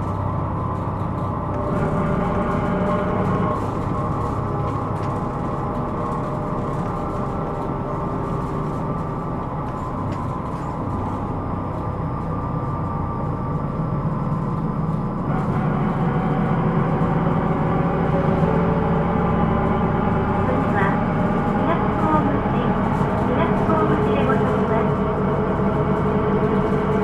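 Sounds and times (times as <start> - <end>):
bus diesel engine hum: 0.0 - 27.0
road noise: 0.0 - 27.0.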